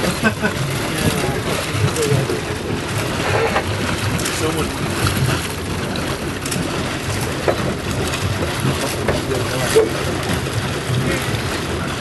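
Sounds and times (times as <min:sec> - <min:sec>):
water washing against boat: 0:00.0 - 0:12.0.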